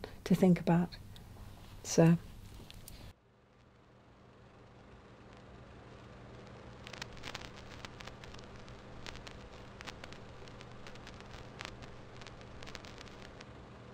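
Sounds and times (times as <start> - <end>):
film crackle clicks and pops: 0.0 - 3.7, 5.3 - 13.5
low steady hum: 0.0 - 13.9.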